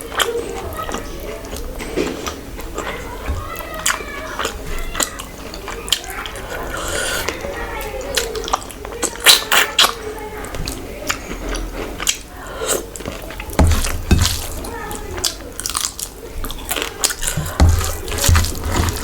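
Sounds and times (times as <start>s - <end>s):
person chewing and crunching food: 0.0s - 10.0s, 10.6s - 19.0s.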